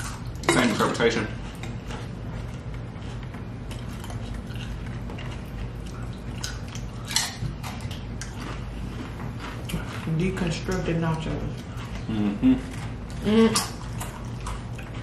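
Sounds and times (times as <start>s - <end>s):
chewing crunchy chips: 0.0s - 15.0s
steady low hum: 0.0s - 15.0s.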